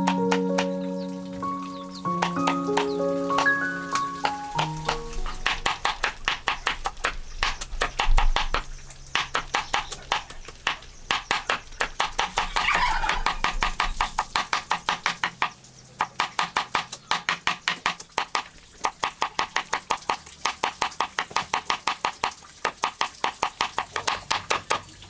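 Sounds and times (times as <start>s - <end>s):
rapid even knocking: 1.4s - 24.8s.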